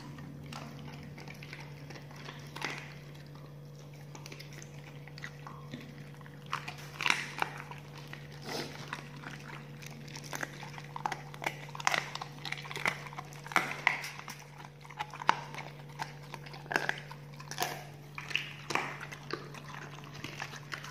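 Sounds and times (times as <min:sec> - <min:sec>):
dog licking and chewing: 0:00.0 - 0:20.9.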